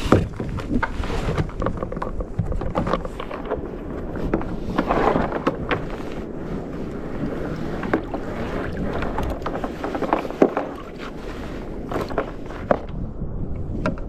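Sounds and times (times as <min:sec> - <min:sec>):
water washing around kayak: 0:00.0 - 0:13.8
wind buffeting microphone: 0:00.0 - 0:14.0.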